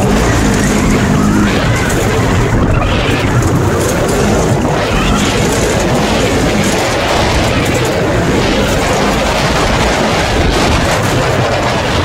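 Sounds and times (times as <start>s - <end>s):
off-road vehicle engine rumble: 0.0s - 12.0s
tyres on stony ground: 0.0s - 12.0s
wind buffeting microphone: 0.0s - 12.0s.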